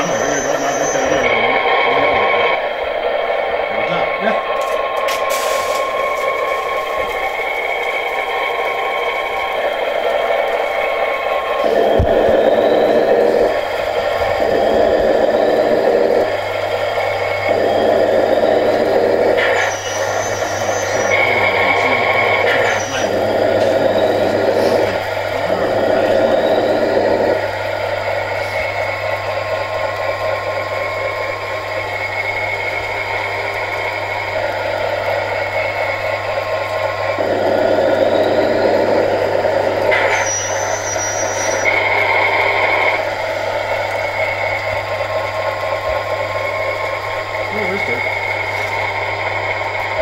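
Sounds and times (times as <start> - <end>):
diesel engine sound from speaker: 0.0 - 50.0
steady hum: 0.0 - 50.0.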